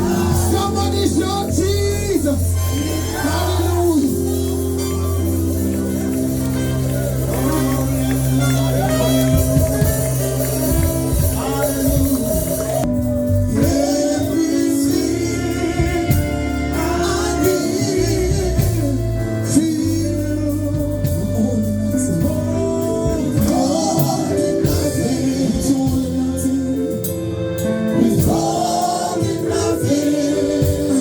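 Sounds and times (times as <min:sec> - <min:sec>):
people singing: 0:00.0 - 0:06.1, 0:07.2 - 0:31.0
gospel band playing: 0:00.0 - 0:31.0.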